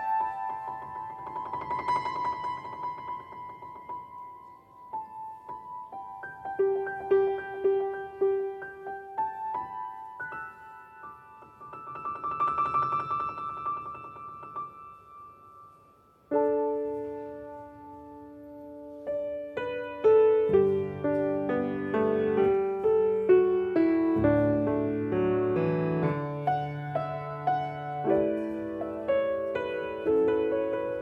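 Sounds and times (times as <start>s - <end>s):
solo piano playing: 0.0s - 31.0s.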